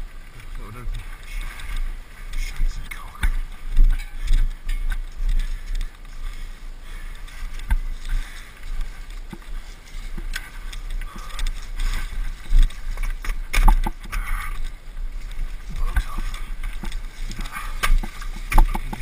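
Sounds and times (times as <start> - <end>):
bicycle knocks and rattles: 0.4 - 19.0.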